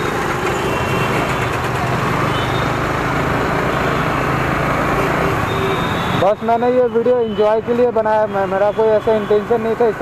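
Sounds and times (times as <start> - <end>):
surrounding scooter engines: 0.0 - 10.0
wind and road noise: 0.0 - 10.0.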